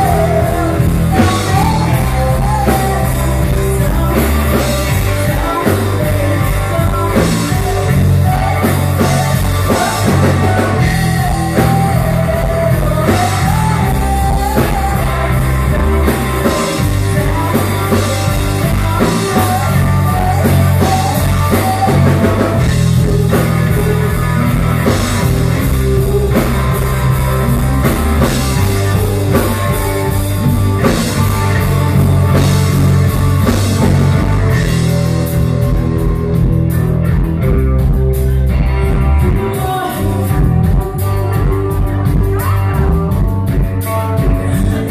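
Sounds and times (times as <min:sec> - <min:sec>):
person singing into a microphone: 0:00.0 - 0:36.4, 0:39.0 - 0:44.9
drum kit: 0:00.0 - 0:44.9
electric guitars: 0:00.0 - 0:44.9.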